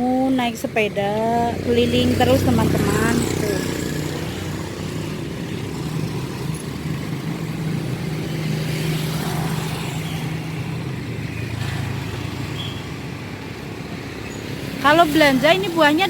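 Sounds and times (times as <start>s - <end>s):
cars and motorcycles passing: 0.0s - 16.0s.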